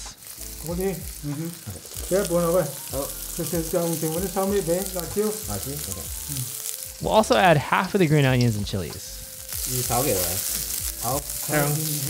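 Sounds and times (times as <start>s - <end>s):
food sizzling in hot oil: 0.0s - 12.0s
man talking: 0.6s - 10.4s, 11.0s - 12.0s.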